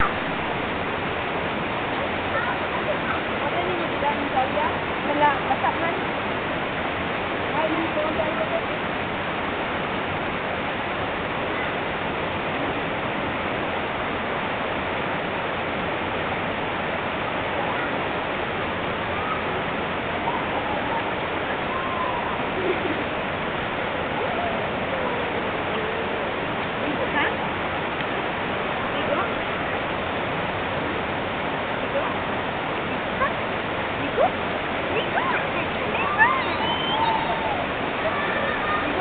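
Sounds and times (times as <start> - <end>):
waterfall pouring into pool: 0.0 - 39.0.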